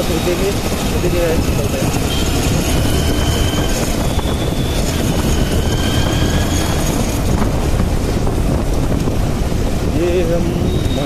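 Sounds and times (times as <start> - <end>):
road noise of cars: 0.0 - 11.0
wind on microphone: 0.0 - 11.0.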